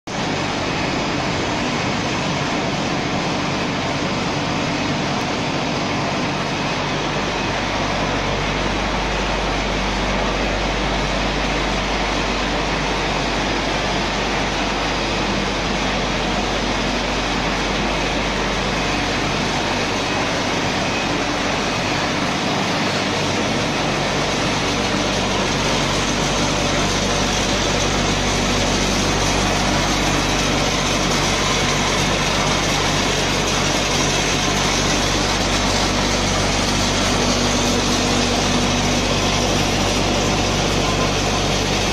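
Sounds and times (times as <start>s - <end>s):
machinery humming: 0.1s - 41.9s.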